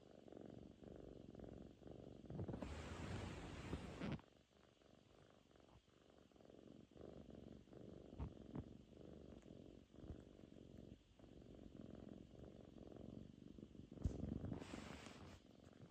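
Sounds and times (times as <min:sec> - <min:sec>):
kitten purring faintly: 0:00.0 - 0:15.9.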